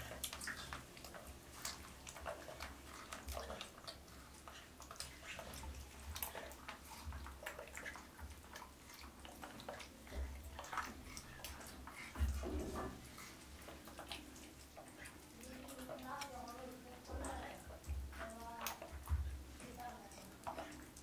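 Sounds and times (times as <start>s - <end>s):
water splashing in plastic tub: 0.0s - 21.0s.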